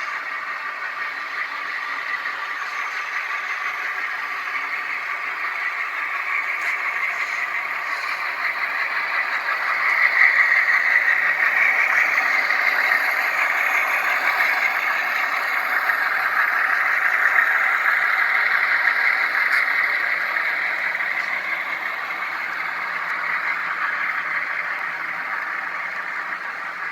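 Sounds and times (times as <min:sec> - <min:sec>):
model train rattling clatter: 0:00.0 - 0:26.9.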